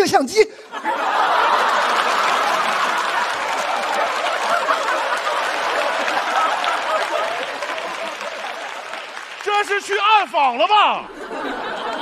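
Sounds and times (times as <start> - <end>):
audience laughing: 0.6 - 9.4, 11.0 - 12.0
audience applauding: 1.0 - 10.8.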